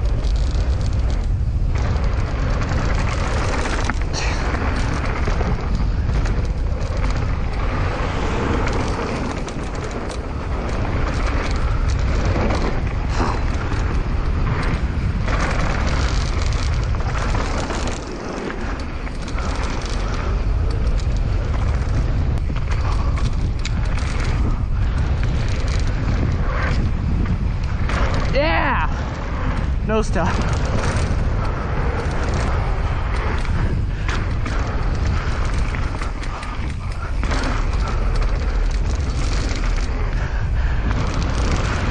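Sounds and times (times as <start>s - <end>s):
bike rattling and knocking: 0.0s - 41.9s
tyres on dirt: 0.0s - 41.9s
wind buffeting microphone: 0.0s - 41.9s.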